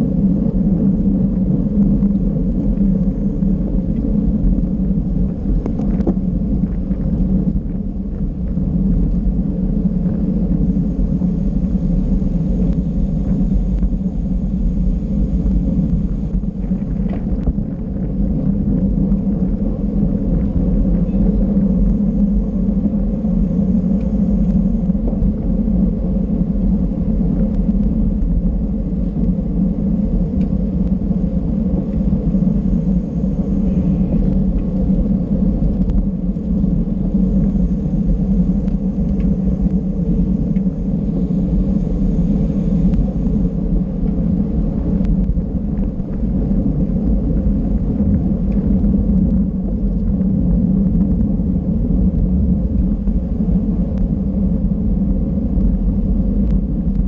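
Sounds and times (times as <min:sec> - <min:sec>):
bicycle tyre road noise: 0:00.0 - 0:57.0
wind rumble on microphone: 0:00.0 - 0:57.0.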